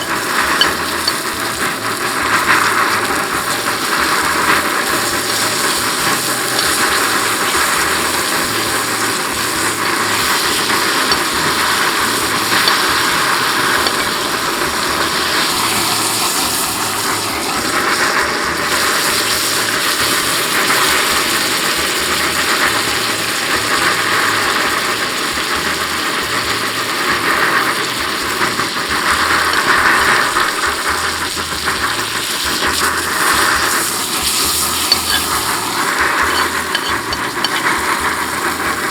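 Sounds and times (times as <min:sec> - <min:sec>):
steak sizzling in a pan: 0:00.0 - 0:38.9.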